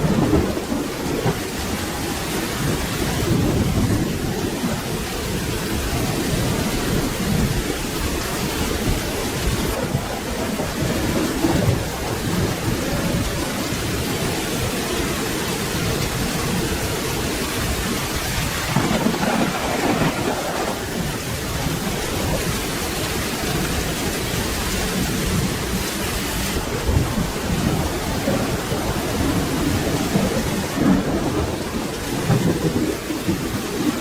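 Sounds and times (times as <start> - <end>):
low rolling thunder: 0.0 - 34.0
steady rain: 0.0 - 34.0.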